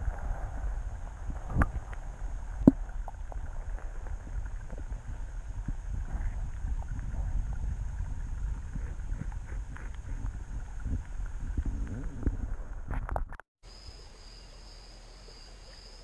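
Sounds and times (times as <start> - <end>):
muffled underwater rumble: 0.0 - 13.4.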